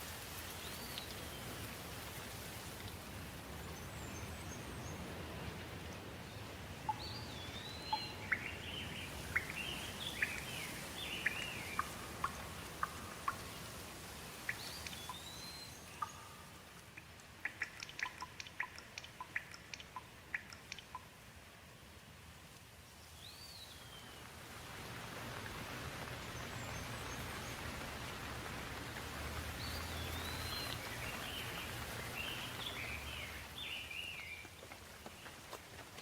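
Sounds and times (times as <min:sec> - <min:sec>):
rain hiss: 0:00.0 - 0:36.0.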